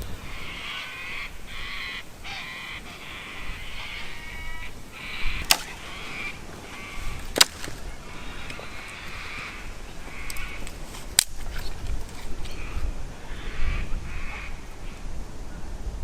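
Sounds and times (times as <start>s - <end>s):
crows cawing: 0.2s - 10.8s, 12.5s - 15.0s.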